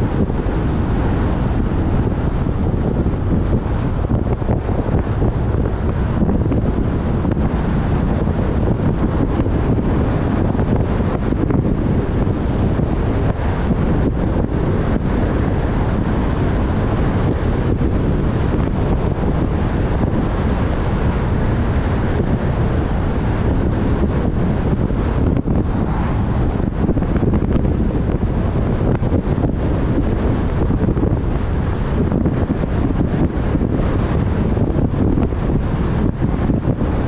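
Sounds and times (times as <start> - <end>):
car road rumble: 0.0 - 37.0
wind on microphone: 0.0 - 37.0.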